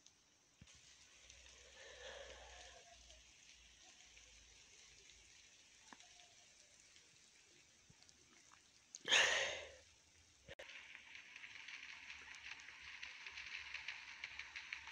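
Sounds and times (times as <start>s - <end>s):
faint outdoor hiss: 0.0s - 14.9s.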